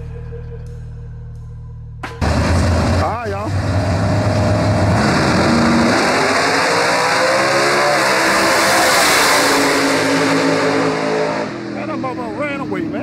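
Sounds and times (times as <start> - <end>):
race car engines accelerating: 2.2 - 13.0.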